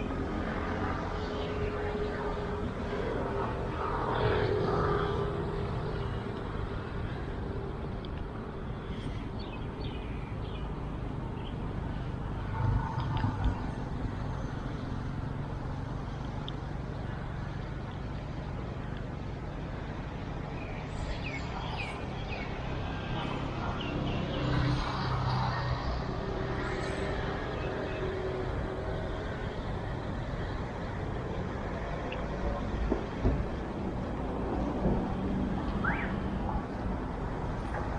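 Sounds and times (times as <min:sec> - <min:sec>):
road traffic rumble: 0:00.0 - 0:37.9
vehicles passing: 0:00.0 - 0:37.9.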